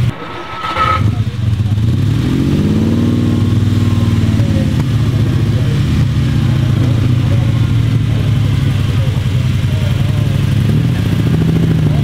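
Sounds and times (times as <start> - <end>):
sports car engine at low revs: 1.2 - 12.0.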